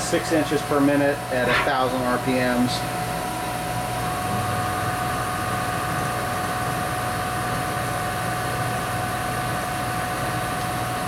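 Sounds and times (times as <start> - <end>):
milling machine hum and whine: 0.0 - 11.0.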